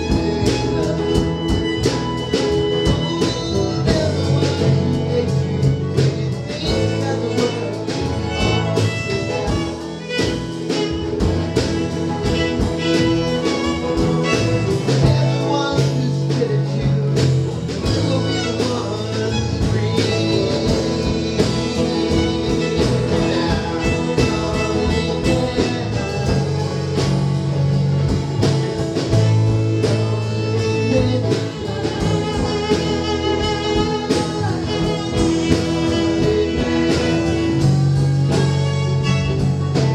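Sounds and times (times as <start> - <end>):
band playing live: 0.0 - 39.9.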